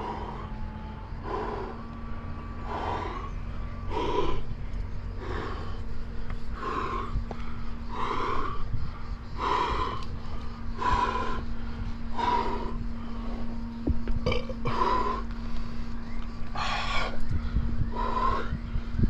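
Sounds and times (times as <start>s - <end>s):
person breathing hard: 0.0s - 13.8s, 14.6s - 19.0s.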